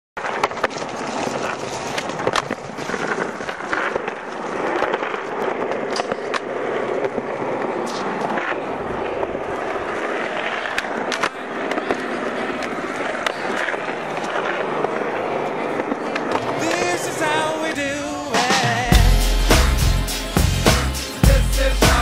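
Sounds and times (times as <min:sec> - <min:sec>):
skateboard clacking: 0:00.2 - 0:20.0
skateboard wheels rolling on concrete: 0:00.2 - 0:22.0.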